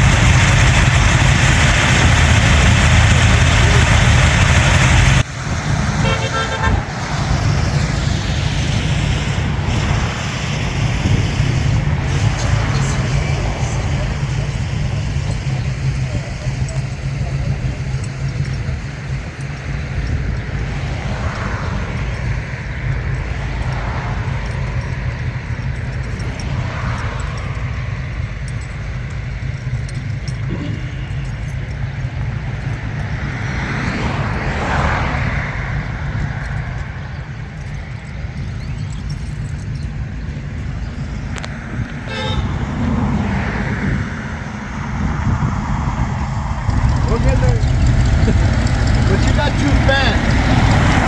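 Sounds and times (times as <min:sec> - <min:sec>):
car engines rumbling: 0:00.0 - 0:51.0
vehicle passing: 0:00.0 - 0:51.0.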